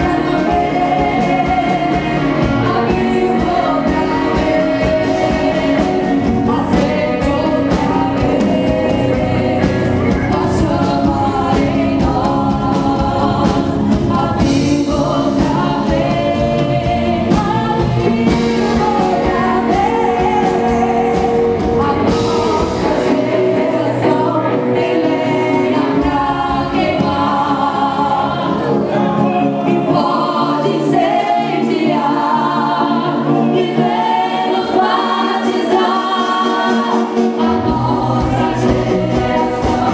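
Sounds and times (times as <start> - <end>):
band accompaniment: 0.0 - 39.9
group of voices singing: 0.0 - 39.9.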